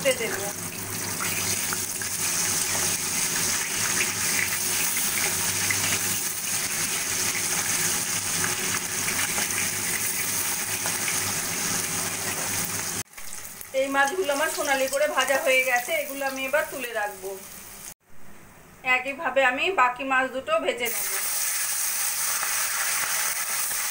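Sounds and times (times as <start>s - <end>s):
fish sizzling in hot oil: 0.0s - 18.0s, 20.9s - 23.9s.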